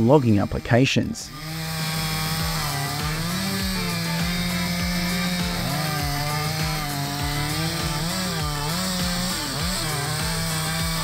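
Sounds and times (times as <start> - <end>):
chainsaw cutting tree trunk: 0.0 - 11.0.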